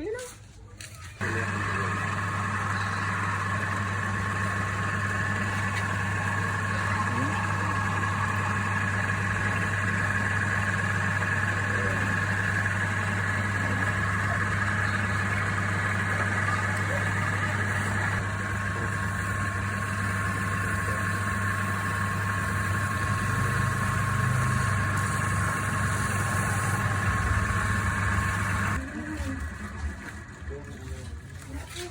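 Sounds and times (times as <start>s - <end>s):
lathe motor humming and whining: 1.2s - 31.8s.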